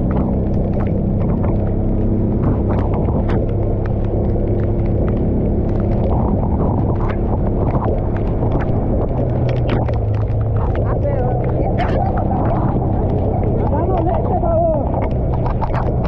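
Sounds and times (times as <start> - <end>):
raindrops ticking on camera: 0.0 - 16.0
vehicle engine running: 0.0 - 16.0
wind rumble on microphone: 0.0 - 16.0.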